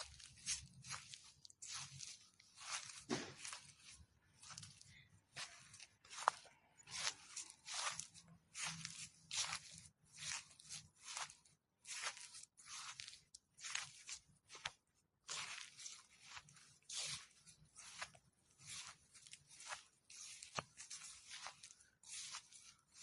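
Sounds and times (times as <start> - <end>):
footsteps through fallen leaves: 0.0 - 23.0.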